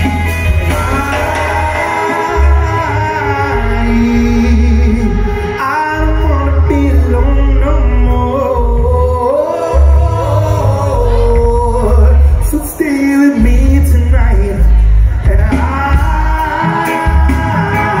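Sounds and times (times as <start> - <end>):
live rock band playing: 0.0 - 18.0
person singing: 0.0 - 18.0.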